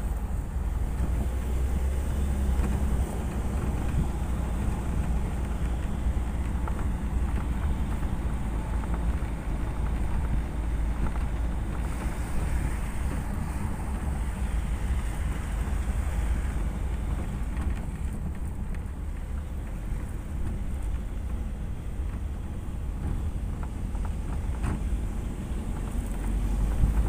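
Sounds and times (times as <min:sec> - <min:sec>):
pickup truck rumble: 0:00.0 - 0:27.0.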